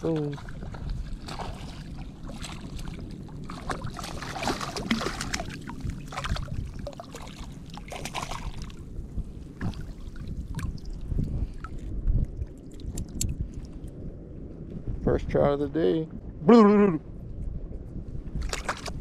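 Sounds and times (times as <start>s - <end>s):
water splashing and sloshing: 0.0s - 14.8s, 17.7s - 19.0s.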